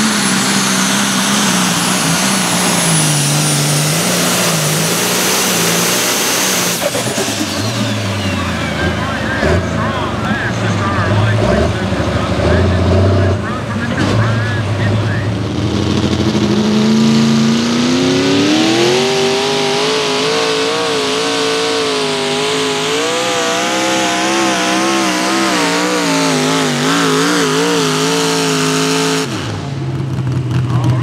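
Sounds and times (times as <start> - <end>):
tractor engine at full throttle: 0.0 - 31.0.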